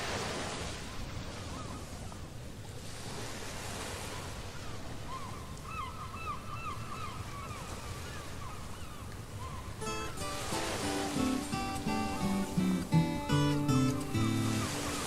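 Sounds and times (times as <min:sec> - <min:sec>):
ocean surf: 0:00.0 - 0:15.0.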